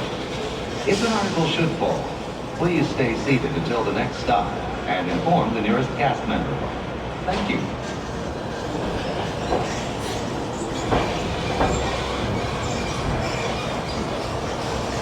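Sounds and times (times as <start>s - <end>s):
tram cars rumbling and rattling: 0.0s - 15.0s.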